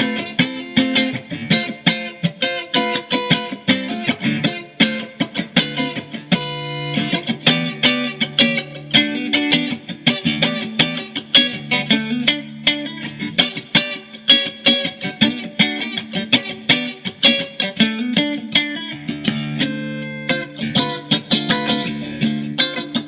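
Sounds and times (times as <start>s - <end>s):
electric guitar picked notes: 0.0s - 23.0s.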